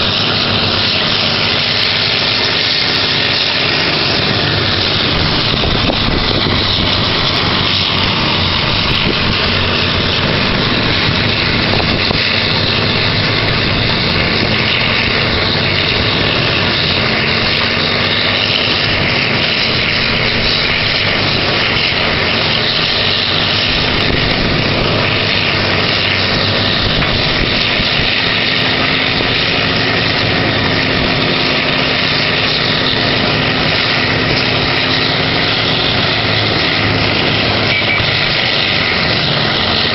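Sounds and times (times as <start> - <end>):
wood grinder and excavator running: 0.0 - 39.9.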